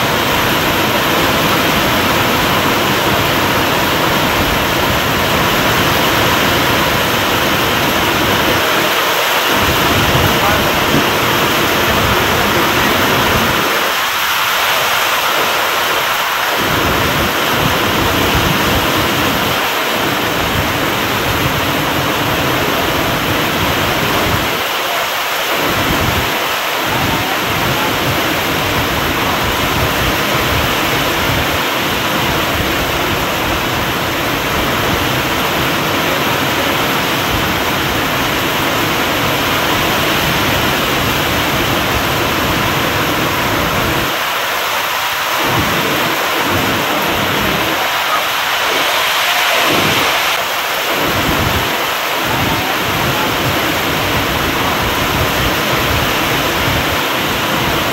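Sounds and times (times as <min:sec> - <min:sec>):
heavy rain on metal roof: 0:00.0 - 0:57.9
water streaming off roof edge: 0:00.0 - 0:57.9.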